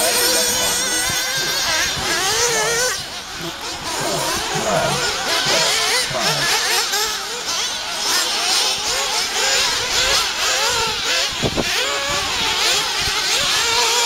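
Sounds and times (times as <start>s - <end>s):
small nitro engines revving: 0.0s - 14.0s.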